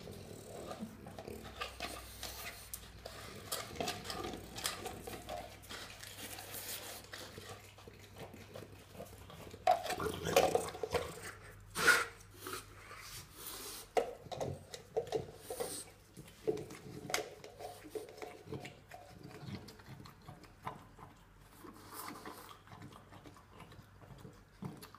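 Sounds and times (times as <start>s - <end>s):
dog licking: 0.0s - 11.5s, 13.9s - 24.9s.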